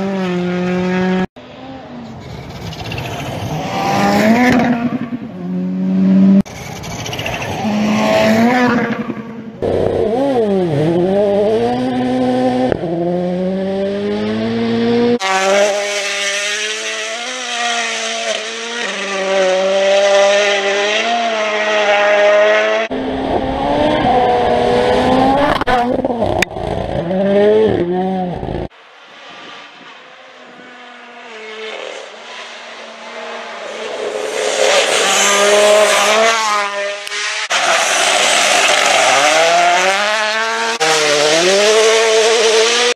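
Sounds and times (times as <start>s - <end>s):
rally car engines at high revs: 0.0s - 42.9s.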